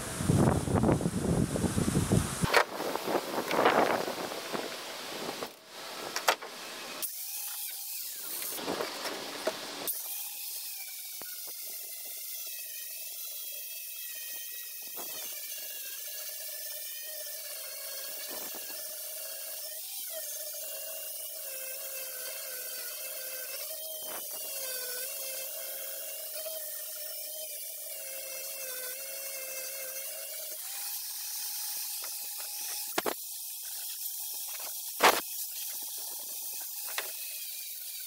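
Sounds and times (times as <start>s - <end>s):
power grinder whining: 2.4s - 38.0s.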